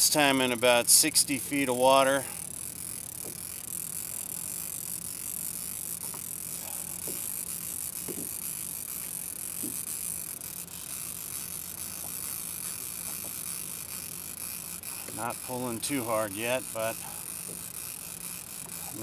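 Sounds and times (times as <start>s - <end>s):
fishing reel whirring: 0.0s - 19.0s.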